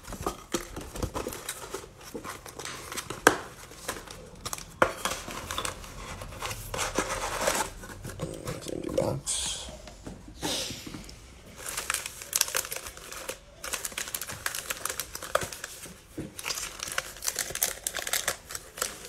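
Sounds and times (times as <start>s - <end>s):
plastic wrappers crinkling: 0.0s - 8.9s, 11.5s - 19.0s.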